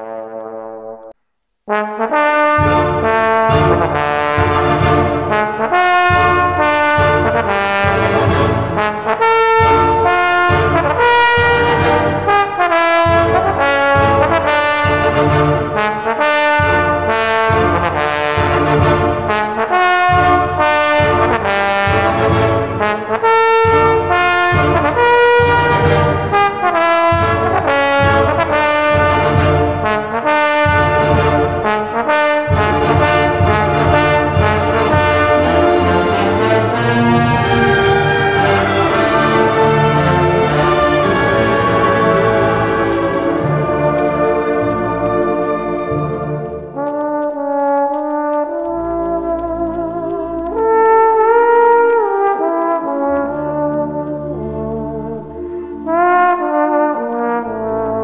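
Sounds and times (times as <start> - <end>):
brass band accompaniment: 0.0 - 58.0
solo trombone melody: 0.0 - 58.0.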